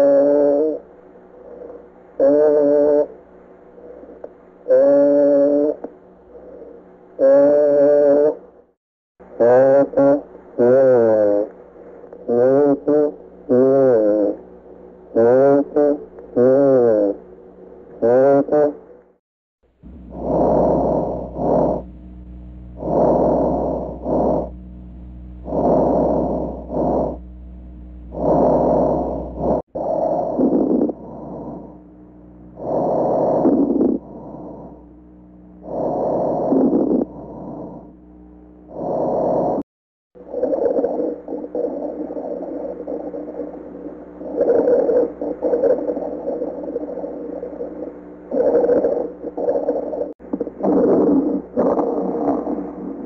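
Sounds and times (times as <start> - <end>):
steady low hum: 0.0 - 39.6, 40.2 - 53.0.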